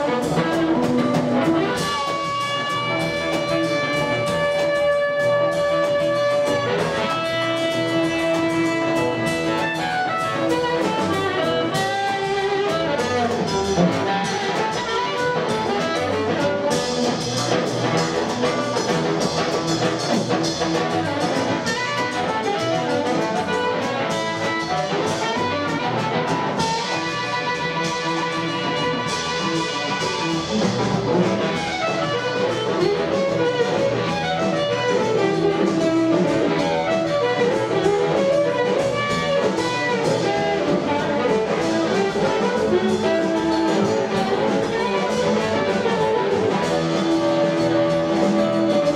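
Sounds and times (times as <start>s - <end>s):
amplified blues harmonica: 0.0s - 48.9s
double bass: 0.0s - 48.9s
drums: 0.0s - 48.9s
electric guitar: 0.0s - 48.9s.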